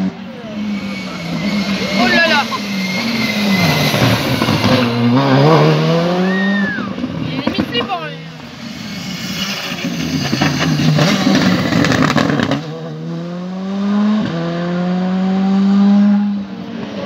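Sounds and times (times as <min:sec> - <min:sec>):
rally car engine revving hard: 0:00.0 - 0:17.0
rally car passing at speed: 0:00.0 - 0:17.0.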